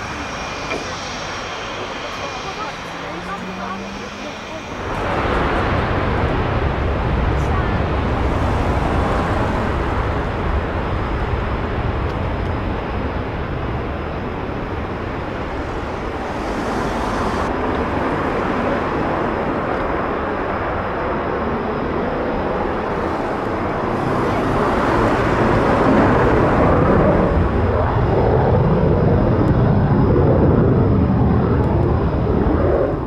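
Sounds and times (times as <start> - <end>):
fighter jet engine roar: 0.0 - 33.0.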